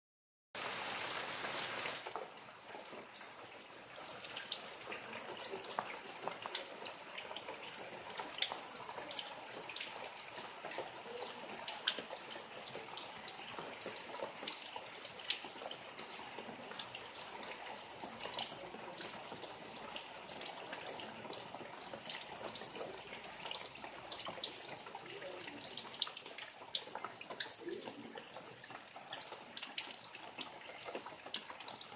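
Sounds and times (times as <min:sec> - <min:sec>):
rain falling: 0:00.6 - 0:31.9
raindrops ticking: 0:00.8 - 0:31.9.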